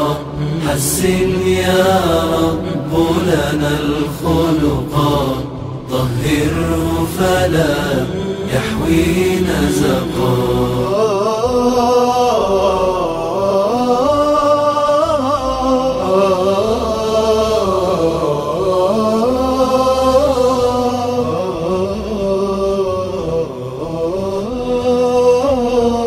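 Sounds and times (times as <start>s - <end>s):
person singing devotional song: 0.0s - 26.0s.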